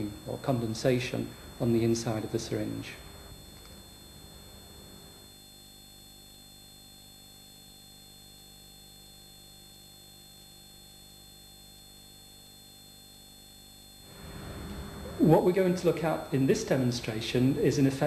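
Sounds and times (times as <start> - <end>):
faint electrical hum and hiss: 0.0 - 18.0.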